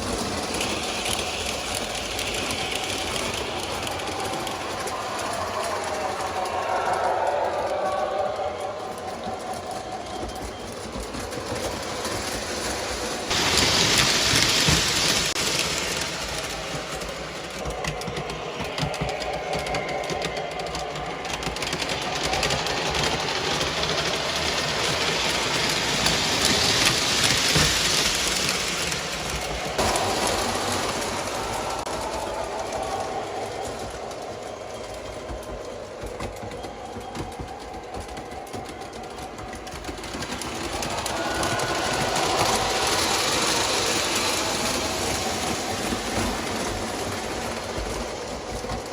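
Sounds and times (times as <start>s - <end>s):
wheels clattering on track: 0.0s - 48.9s.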